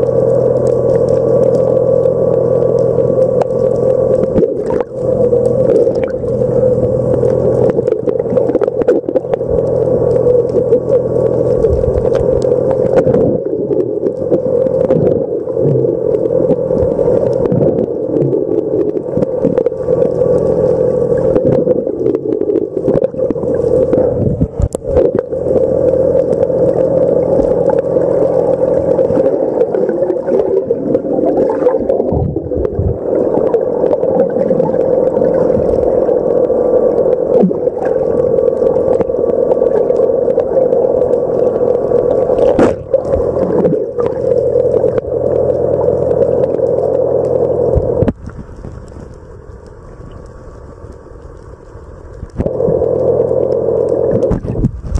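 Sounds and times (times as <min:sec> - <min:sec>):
boat engine hum underwater: 0:00.0 - 0:54.9.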